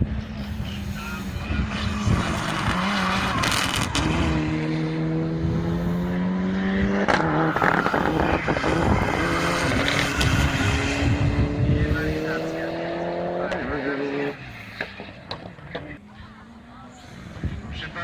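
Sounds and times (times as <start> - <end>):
race car engine running hard: 0.0 - 18.0.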